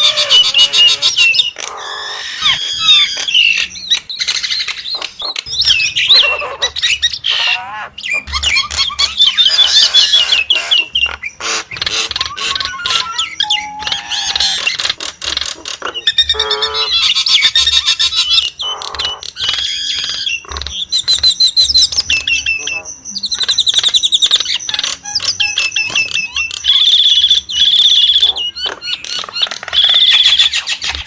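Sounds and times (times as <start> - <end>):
starling singing: 0.0 - 31.0.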